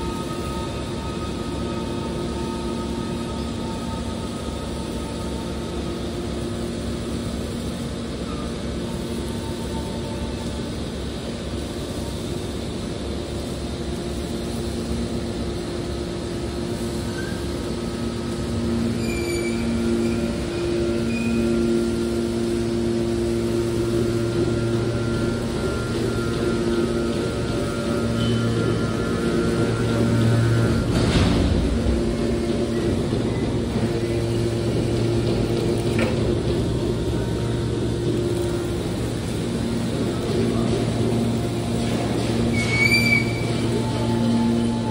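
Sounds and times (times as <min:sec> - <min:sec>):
baler machine drone: 0:00.0 - 0:44.9.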